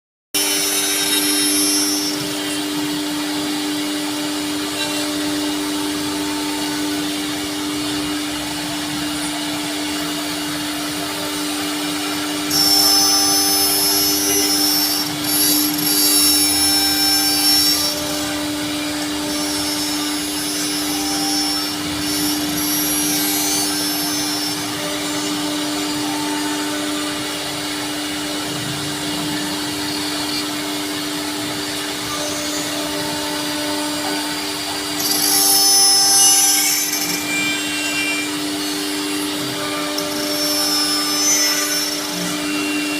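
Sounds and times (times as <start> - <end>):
router spindle whining cutting wood: 0.4 - 42.9.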